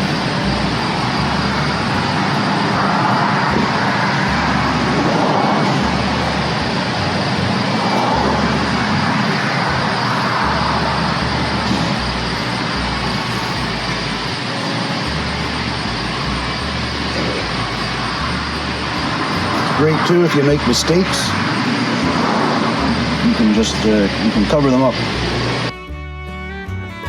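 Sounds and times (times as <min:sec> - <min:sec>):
gas torch flame rushing: 0:00.0 - 0:25.7.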